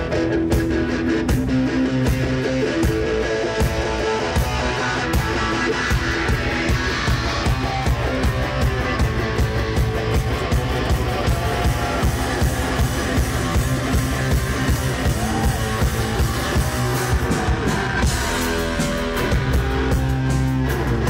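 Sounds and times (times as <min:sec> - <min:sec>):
drum kit pounding: 0:00.0 - 0:21.0
electric guitar played hard: 0:00.0 - 0:21.0.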